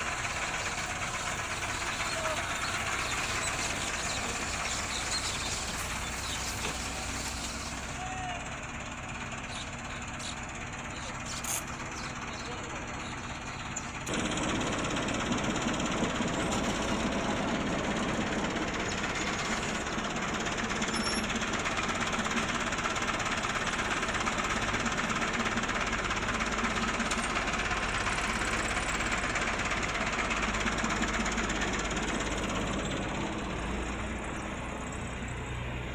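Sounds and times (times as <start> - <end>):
combine harvester engine running: 0.0 - 35.9.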